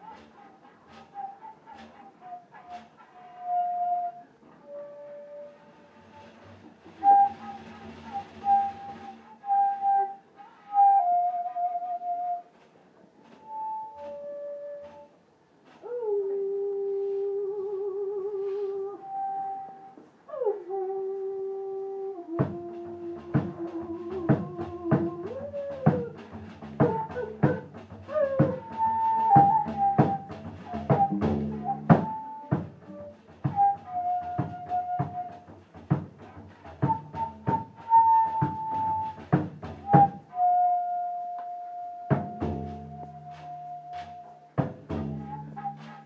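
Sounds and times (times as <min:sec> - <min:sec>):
slow flute-like melody: 0:00.0 - 0:46.0.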